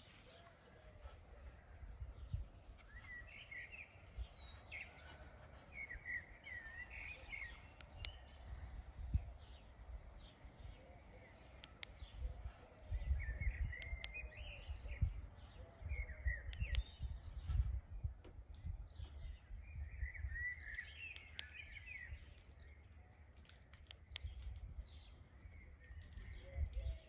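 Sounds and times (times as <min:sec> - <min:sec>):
birds chirping and singing: 0:00.0 - 0:27.0.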